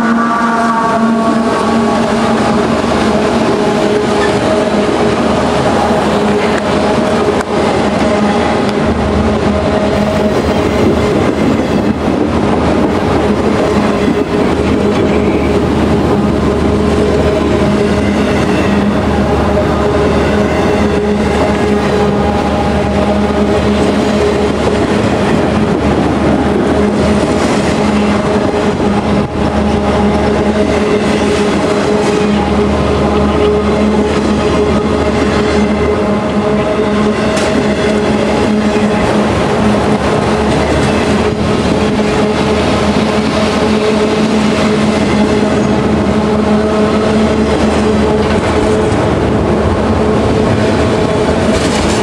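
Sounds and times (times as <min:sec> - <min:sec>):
freight train rolling past: 0:00.0 - 0:52.0.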